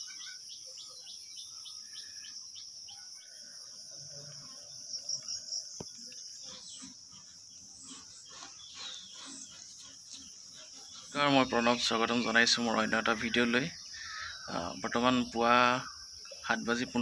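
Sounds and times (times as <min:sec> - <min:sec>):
bird chirps: 0:00.0 - 0:17.0
insect chorus: 0:00.0 - 0:17.0.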